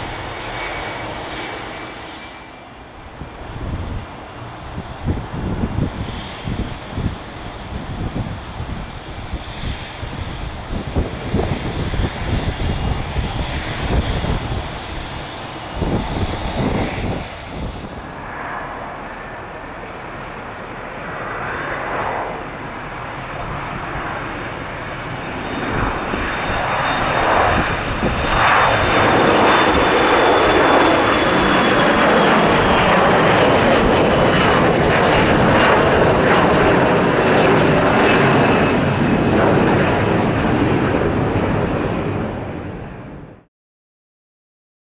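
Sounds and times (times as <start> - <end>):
jet engines spooling up: 0.0 - 43.0
wind buffeting microphone: 2.8 - 43.4.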